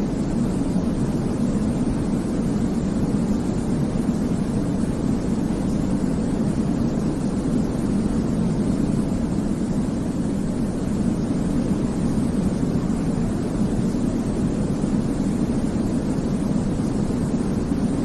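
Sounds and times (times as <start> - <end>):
deep steady hiss: 0.0 - 18.0.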